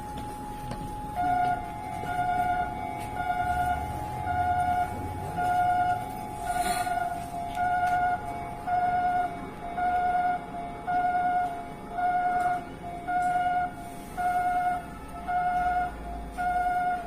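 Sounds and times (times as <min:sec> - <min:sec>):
level-crossing two-note alarm: 0:00.0 - 0:17.0.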